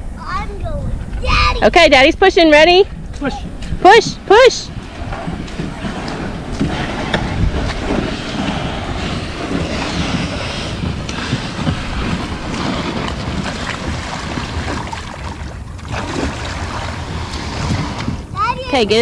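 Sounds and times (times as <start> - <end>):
wind noise on microphone: 0.0 - 19.0
kayak hull scraping on sand: 0.9 - 19.0.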